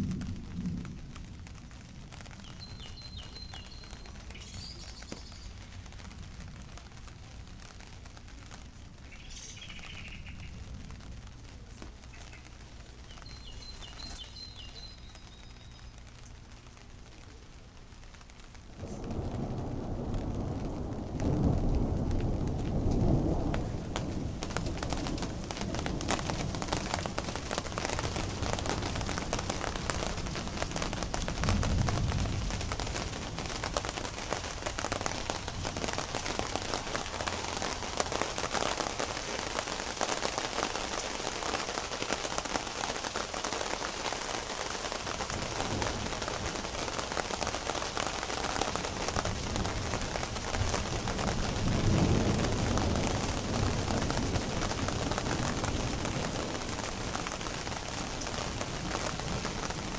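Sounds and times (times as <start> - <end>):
low rumbles of thunder: 0.0 - 11.6, 18.6 - 41.4, 45.0 - 59.9
heavy rain pattering: 0.0 - 59.9.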